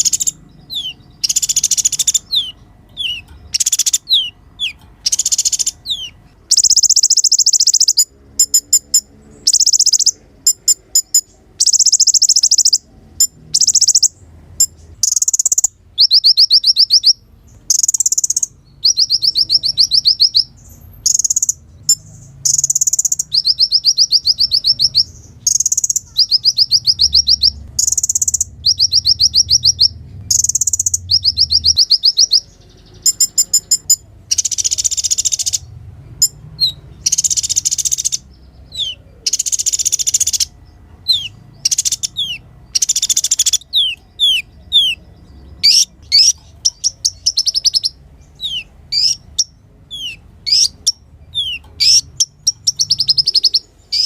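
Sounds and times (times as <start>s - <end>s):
bird singing trilled phrases: 0.0s - 54.0s.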